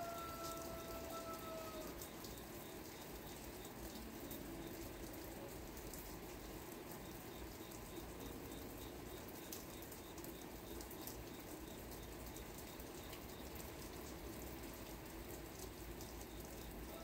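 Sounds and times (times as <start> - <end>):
light drip ticks: 0.0 - 17.0
steady rain falling: 0.0 - 17.0.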